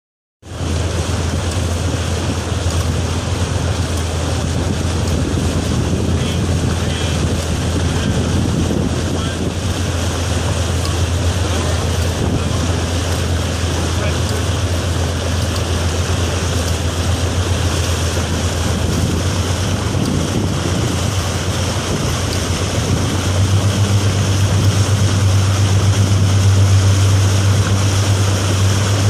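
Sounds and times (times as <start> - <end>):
rushing water from boat: 0.4 - 29.0
wind buffeting microphone: 0.5 - 29.0.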